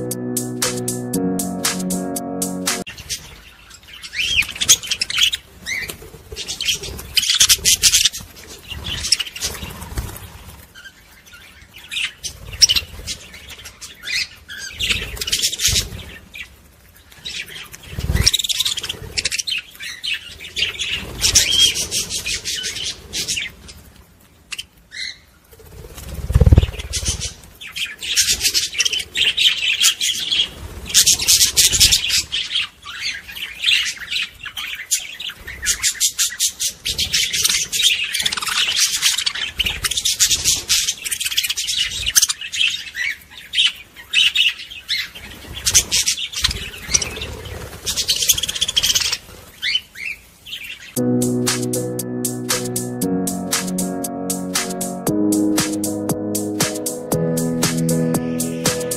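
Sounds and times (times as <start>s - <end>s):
small birds chirping and twittering: 2.9s - 51.0s.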